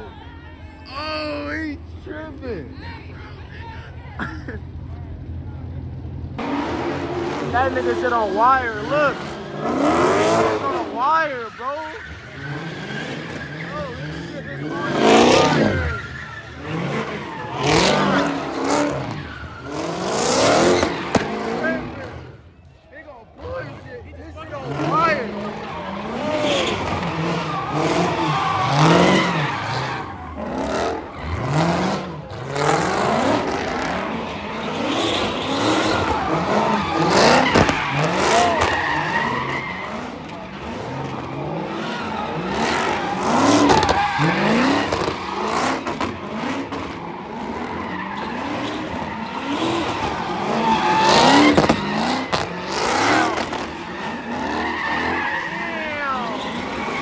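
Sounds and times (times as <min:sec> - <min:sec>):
car engine revving: 0:00.0 - 0:57.0
tyres squealing and skidding: 0:00.0 - 0:57.0.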